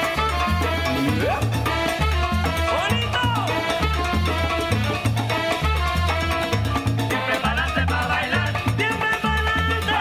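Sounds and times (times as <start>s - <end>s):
salsa music: 0.0s - 10.0s.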